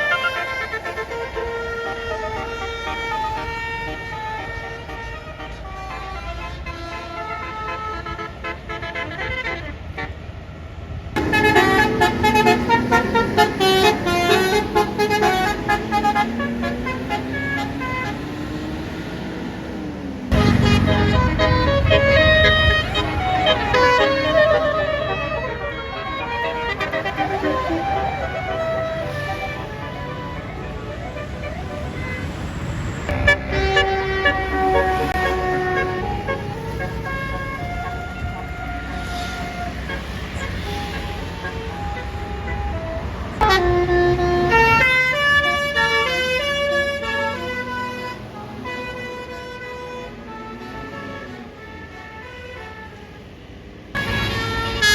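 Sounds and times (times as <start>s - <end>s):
bus horn playing a tune: 0.0s - 10.4s, 11.2s - 54.9s
bus engine rumble: 0.0s - 54.9s.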